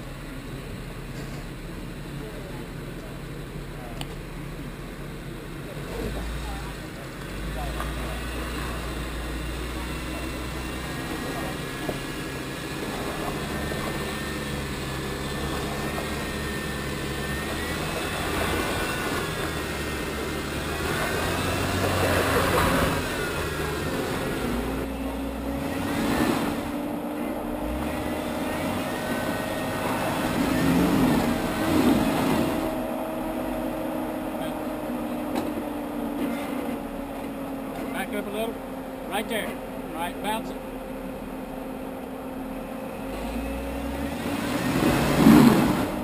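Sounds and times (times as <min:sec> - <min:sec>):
engine revving under load: 0:05.6 - 0:46.0.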